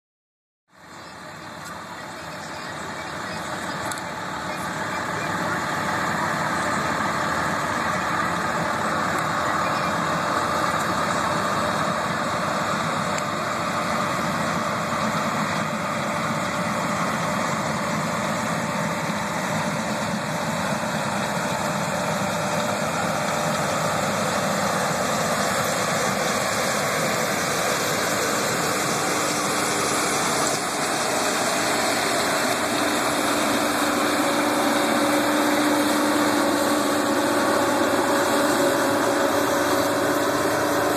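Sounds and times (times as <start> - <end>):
combine harvester running: 0.7 - 40.9
steady machine hum: 0.8 - 40.9.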